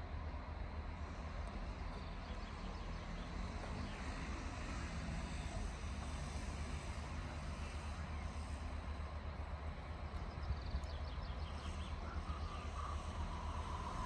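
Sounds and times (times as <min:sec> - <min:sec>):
train rolling past: 0:00.0 - 0:14.0.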